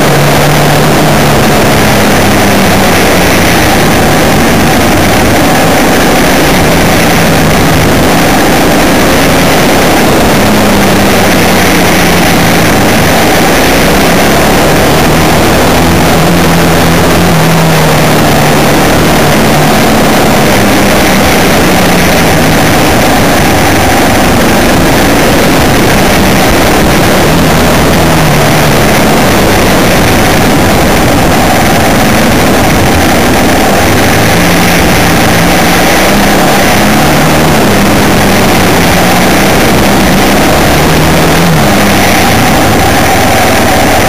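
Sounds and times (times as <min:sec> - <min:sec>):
loud rushing noise: 0:00.0 - 0:44.0
vehicle engine revving: 0:00.0 - 0:44.0.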